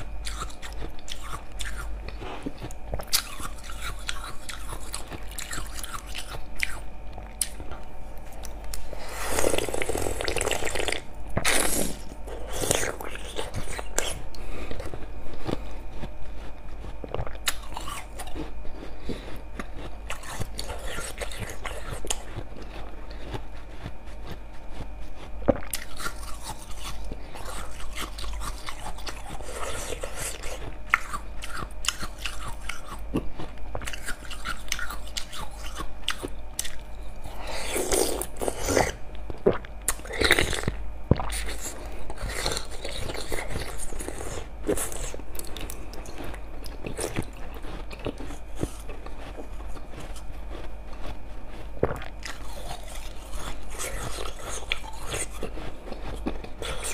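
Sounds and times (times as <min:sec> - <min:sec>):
ice being chewed: 0:00.0 - 0:56.9.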